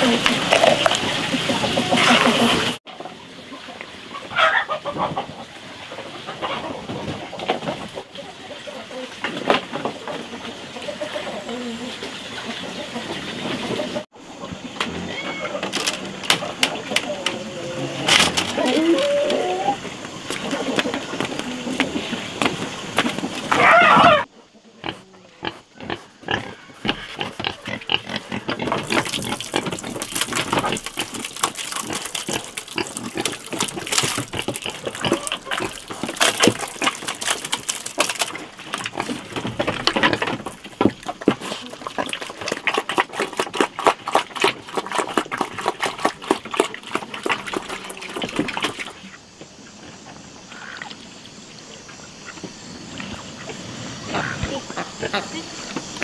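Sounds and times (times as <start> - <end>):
pigs chewing and slurping: 0.0 - 24.2, 24.8 - 55.2
outdoor background: 0.0 - 56.0.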